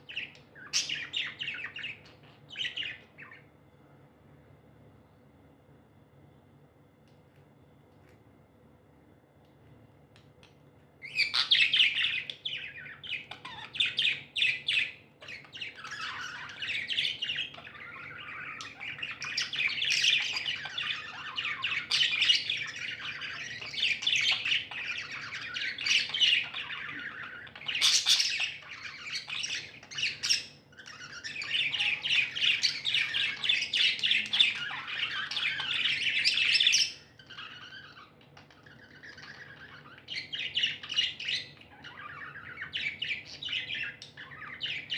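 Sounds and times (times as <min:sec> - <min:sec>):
budgies chirping and warbling: 0:00.0 - 0:03.5, 0:11.0 - 0:44.9.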